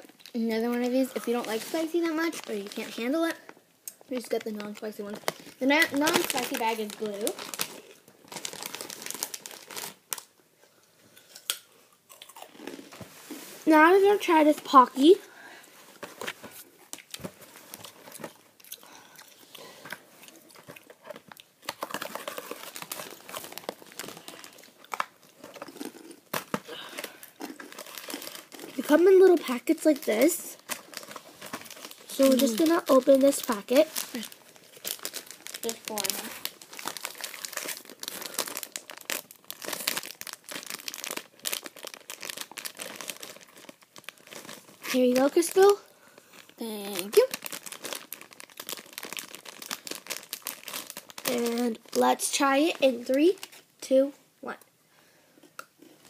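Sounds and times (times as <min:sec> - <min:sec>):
plastic snack packet crinkling: 0:00.0 - 0:10.3, 0:16.0 - 0:54.0.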